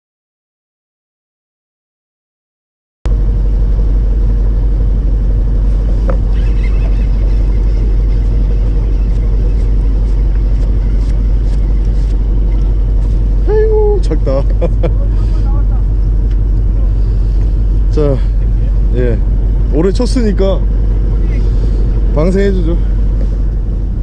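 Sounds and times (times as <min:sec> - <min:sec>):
boat engine rumbling: 0:03.1 - 0:24.0.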